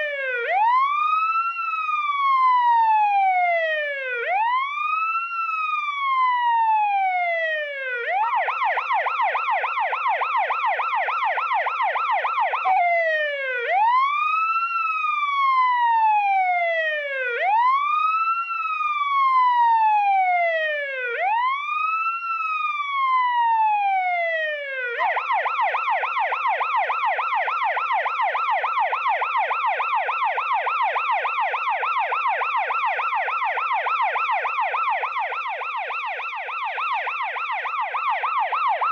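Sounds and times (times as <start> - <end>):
police siren yelp and wail: 0.0 - 38.9.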